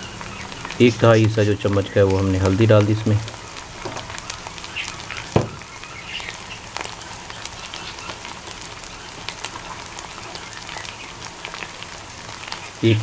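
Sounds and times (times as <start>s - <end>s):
oil popping and crackling: 0.0s - 13.0s
spices frying in hot oil: 0.0s - 13.0s.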